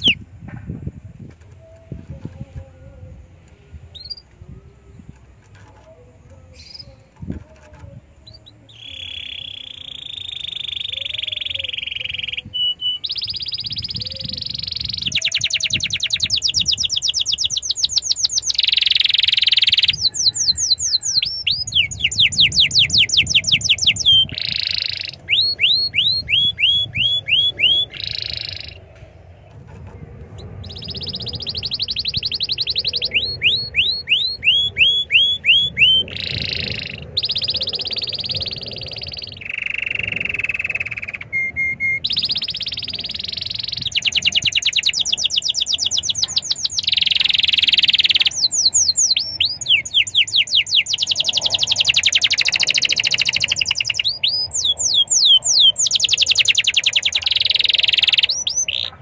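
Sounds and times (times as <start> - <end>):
canary singing: 0.0 - 0.3, 1.2 - 59.0.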